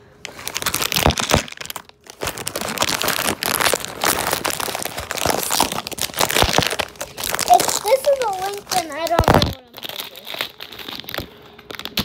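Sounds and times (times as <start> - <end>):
foil wrapper crinkling: 0.2 - 12.0.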